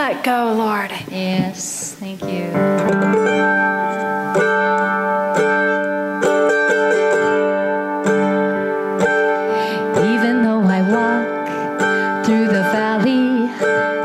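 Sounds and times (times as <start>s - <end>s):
strummed guitars: 1.4s - 14.0s.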